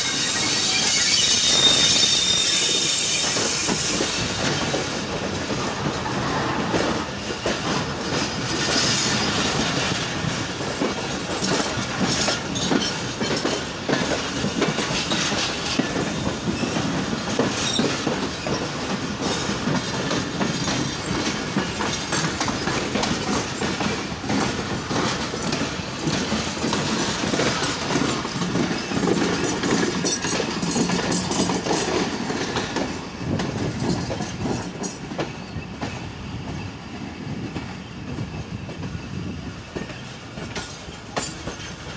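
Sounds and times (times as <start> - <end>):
train wheels clattering over rail joints: 0.0 - 41.9.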